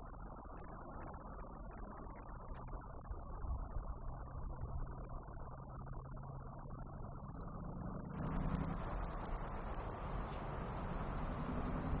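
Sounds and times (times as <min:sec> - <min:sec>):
cicada buzzing: 0:00.0 - 0:10.0
cicada pulsing: 0:00.0 - 0:10.2.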